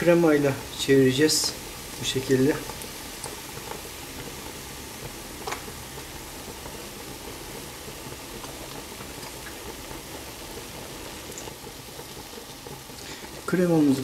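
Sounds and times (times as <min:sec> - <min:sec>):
mushrooms sizzling and bubbling: 0:00.0 - 0:14.0.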